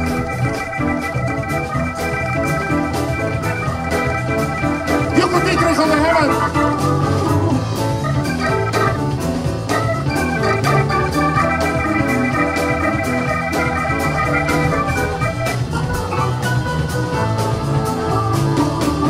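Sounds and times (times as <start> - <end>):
electric bass: 0.0 - 19.0
organ holding high note: 0.0 - 19.0
steady drum beat: 0.0 - 19.0.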